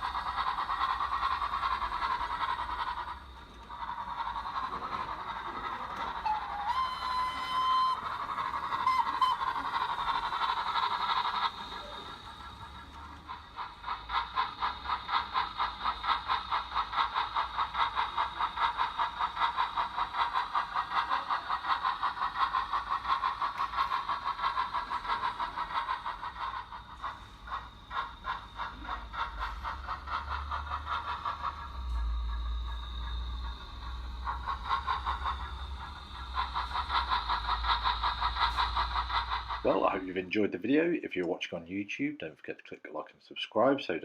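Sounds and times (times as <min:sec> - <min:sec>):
steam locomotive chuffing: 0:00.0 - 0:44.0.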